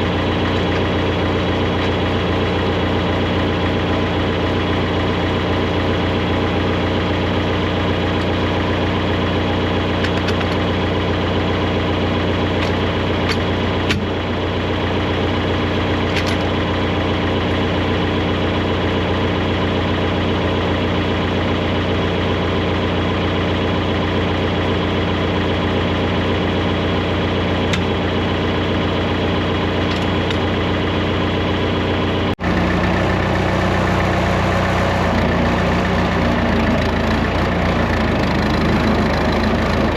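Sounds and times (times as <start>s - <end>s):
farm machine engine running: 0.0s - 39.9s.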